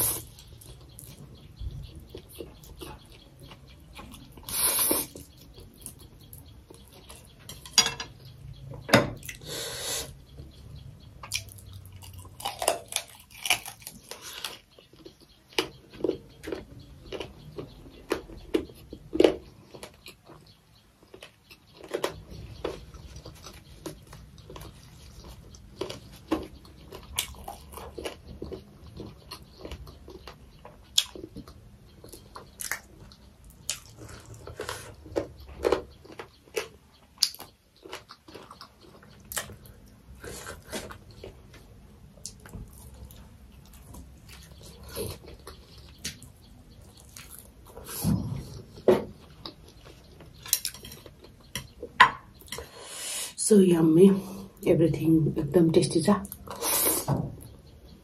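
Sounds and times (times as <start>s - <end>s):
close-miked chewing: 0.0s - 8.6s, 9.2s - 52.7s.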